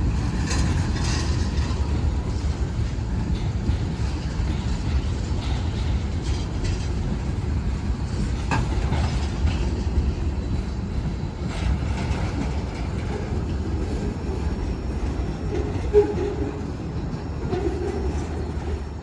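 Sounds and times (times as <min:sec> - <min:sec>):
freight train rumbling past: 0:00.0 - 0:19.0
train wheel clicks and clanks: 0:00.0 - 0:19.0.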